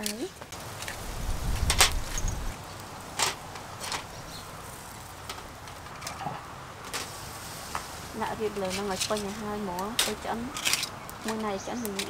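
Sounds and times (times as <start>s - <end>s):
faint grill hiss: 0.0s - 12.0s
shellfish popping on grill: 0.0s - 12.0s.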